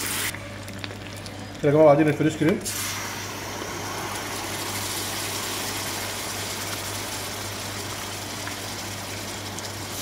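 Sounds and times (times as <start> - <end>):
caramel sizzling and bubbling: 0.0 - 10.0.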